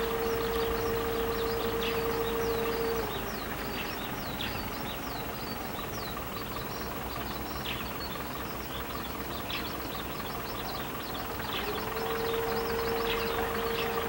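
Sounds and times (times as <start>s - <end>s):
distant train rumble: 0.0s - 14.0s
small birds chirping: 0.0s - 14.0s.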